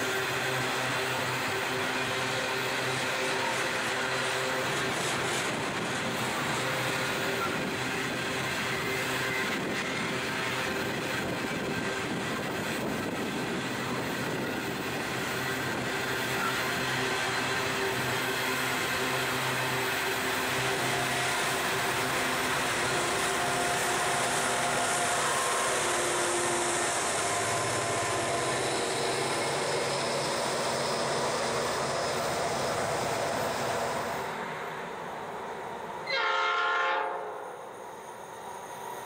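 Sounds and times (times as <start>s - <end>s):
train wheels running on rails: 0.0s - 36.4s.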